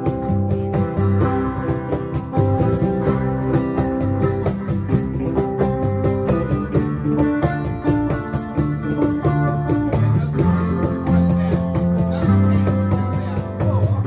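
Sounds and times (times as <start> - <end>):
cajon beat: 0.0 - 14.0
electric guitars: 0.0 - 14.0
low bass line: 0.0 - 14.0
strummed acoustic guitar: 0.0 - 14.0.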